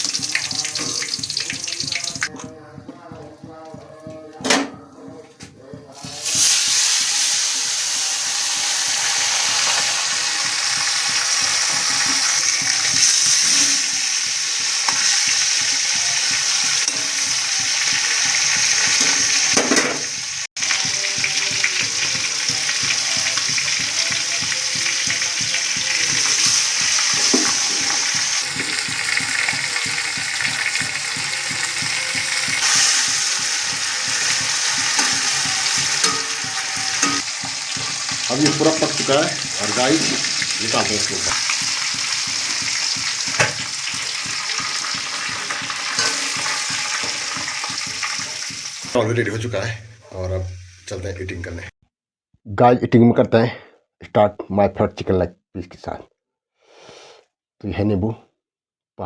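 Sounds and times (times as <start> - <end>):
chicken sizzling in hot oil: 0.0 - 2.3, 6.0 - 51.6.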